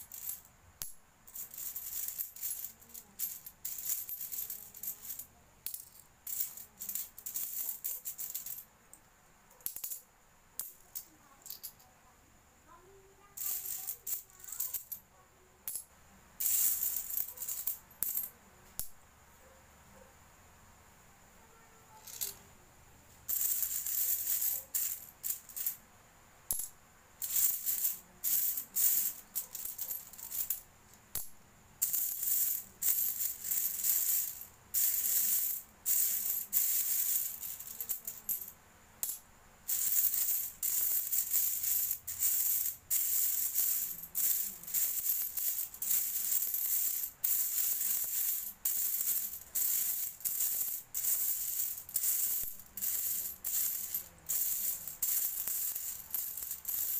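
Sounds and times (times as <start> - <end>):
coins jingling by hand: 0.0 - 8.7, 9.5 - 10.0, 10.6 - 11.8, 13.4 - 15.0, 16.4 - 18.3, 22.0 - 22.4, 23.3 - 25.8, 26.5 - 30.6, 31.2 - 56.9.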